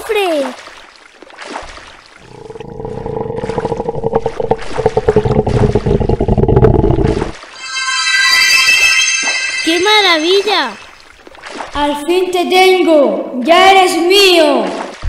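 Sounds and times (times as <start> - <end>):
sea water washing: 0.0 - 12.4, 14.2 - 15.0.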